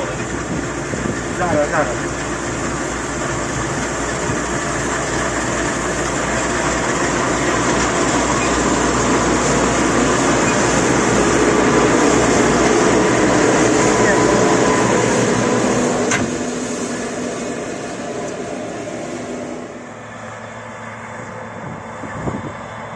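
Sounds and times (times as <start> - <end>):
heavy machinery engine running: 0.0 - 22.9.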